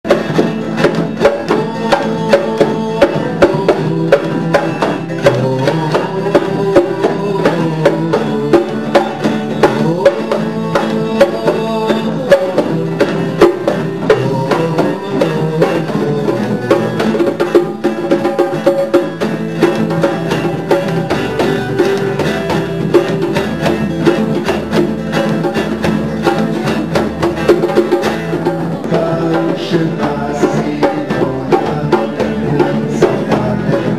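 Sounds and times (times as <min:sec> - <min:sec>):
guitar and drum music: 0:00.0 - 0:33.9.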